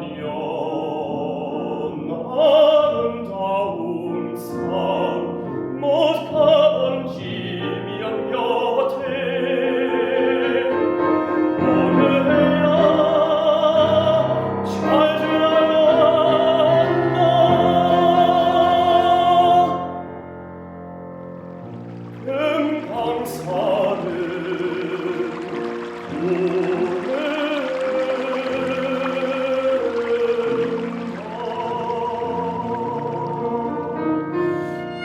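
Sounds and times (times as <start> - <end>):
baritone voice singing with vibrato: 0.0 - 20.1, 22.2 - 35.0
piano accompaniment: 0.0 - 35.0.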